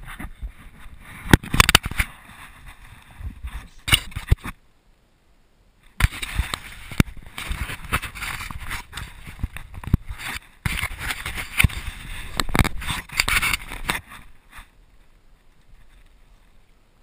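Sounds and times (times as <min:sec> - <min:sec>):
sharp knocks and crackles: 0:00.0 - 0:04.6, 0:05.9 - 0:16.2.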